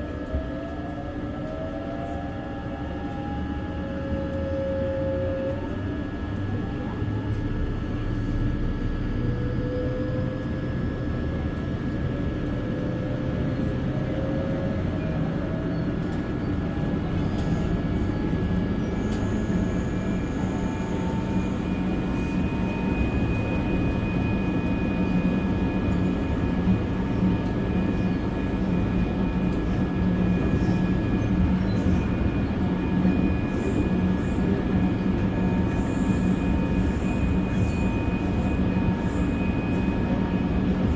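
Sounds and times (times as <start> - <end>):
wheels rumbling on rail: 3.0 - 40.9.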